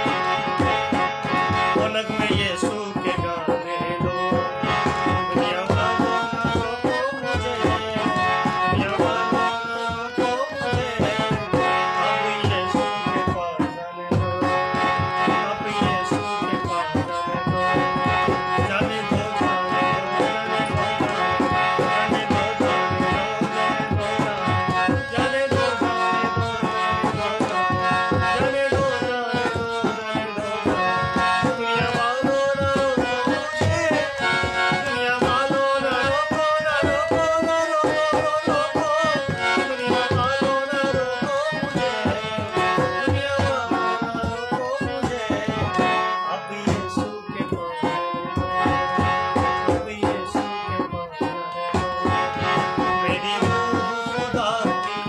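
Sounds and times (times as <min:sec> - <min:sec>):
hand drum fast rhythm: 0:00.0 - 0:11.7, 0:12.4 - 0:55.0
man singing: 0:00.0 - 0:55.0.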